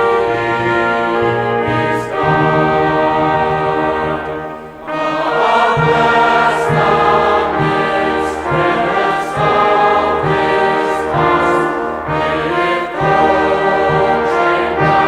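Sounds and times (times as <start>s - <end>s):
choir singing sustained chords: 0.0s - 15.0s
steady low beat: 2.2s - 15.0s.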